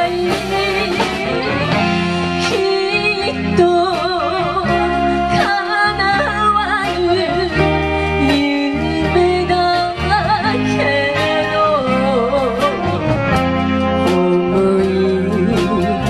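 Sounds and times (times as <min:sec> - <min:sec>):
bass guitar: 0:00.0 - 0:16.0
drums: 0:00.0 - 0:16.0
electric guitar: 0:00.0 - 0:16.0
woman singing with vibrato: 0:00.0 - 0:16.0.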